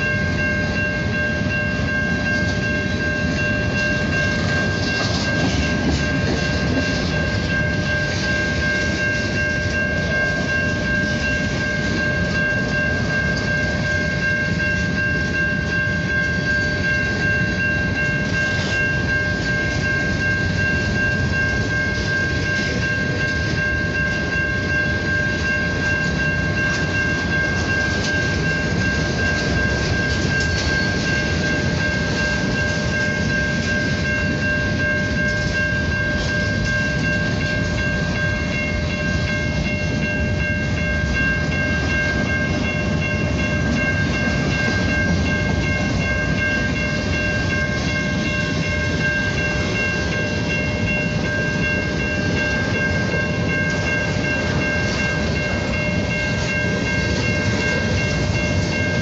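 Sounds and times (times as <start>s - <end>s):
high ringing tone: 0.0s - 59.0s
train wheels rumbling on rails: 0.0s - 59.0s.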